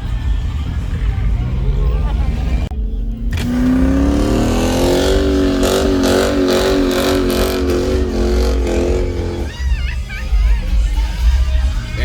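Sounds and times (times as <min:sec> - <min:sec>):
car engine revving: 0:00.0 - 0:10.3.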